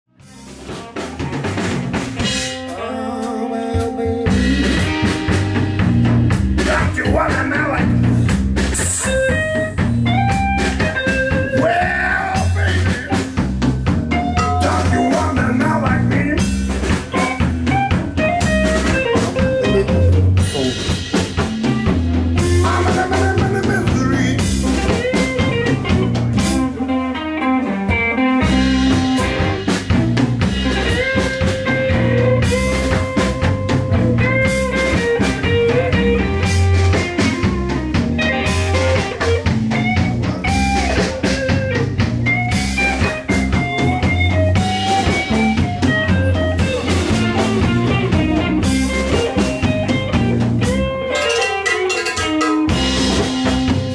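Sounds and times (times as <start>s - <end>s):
lead guitar with bent notes: 0.1s - 53.9s
live blues band playing: 0.1s - 53.9s.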